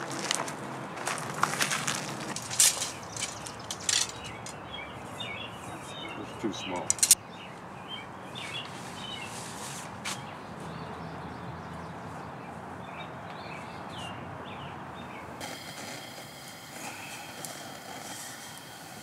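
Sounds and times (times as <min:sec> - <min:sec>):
outdoor background hum: 0:00.0 - 0:19.0
birds chirping: 0:01.0 - 0:19.0.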